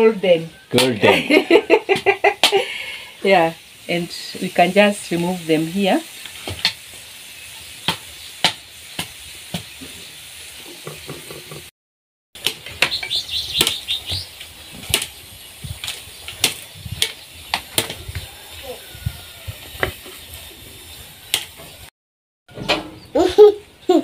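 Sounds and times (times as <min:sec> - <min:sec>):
sausages sizzling in a frying pan: 0:00.0 - 0:11.7, 0:12.4 - 0:21.9.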